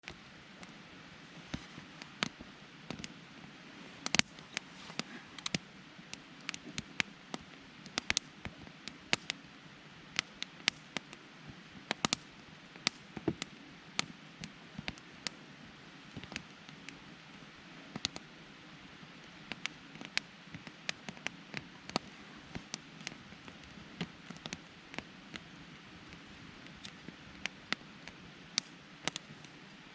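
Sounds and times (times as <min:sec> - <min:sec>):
campfire crackling and popping: 0:00.0 - 0:29.9.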